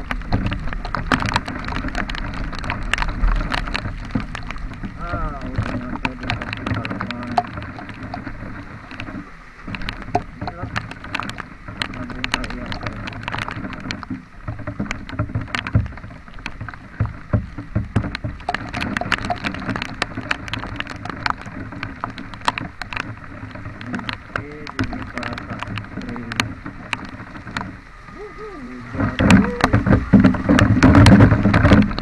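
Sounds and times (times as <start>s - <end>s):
rain tapping on microphone: 0.0s - 32.0s
road and wind noise: 0.0s - 32.0s.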